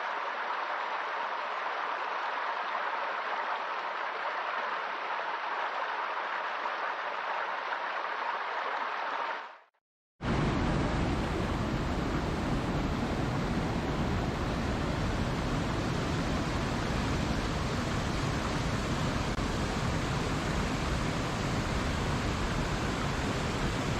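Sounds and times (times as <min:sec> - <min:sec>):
rushing water roar: 0:00.0 - 0:09.3, 0:10.2 - 0:23.9.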